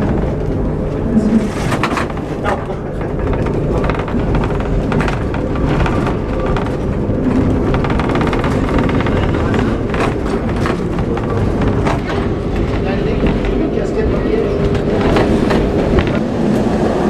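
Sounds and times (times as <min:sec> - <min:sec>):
tram rumbling on track: 0:00.0 - 0:17.0
wheels rattling and clicking on rails: 0:00.0 - 0:17.0.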